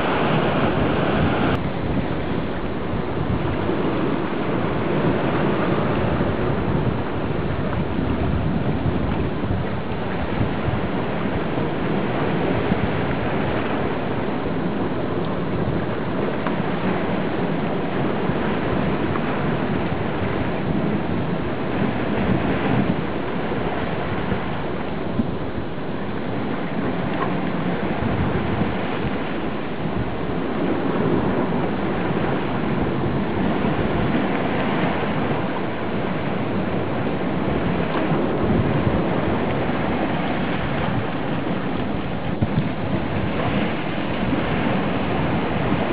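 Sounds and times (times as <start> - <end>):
surf rushing on rocky shore: 0.0 - 45.9.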